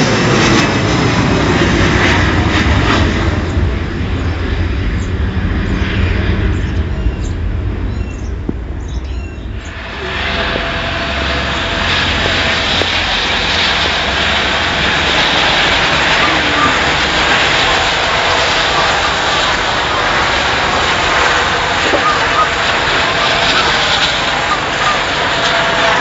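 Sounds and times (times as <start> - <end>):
helicopters flying overhead: 0.0 - 26.0.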